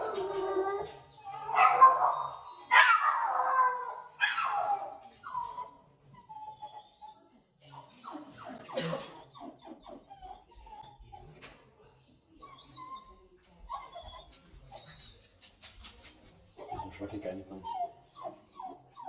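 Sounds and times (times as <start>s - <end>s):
dog whimpering yelps: 0.0s - 10.9s, 12.4s - 13.1s, 13.7s - 15.2s, 16.7s - 19.0s
dog whining: 0.0s - 11.0s, 12.4s - 15.2s, 16.6s - 19.0s.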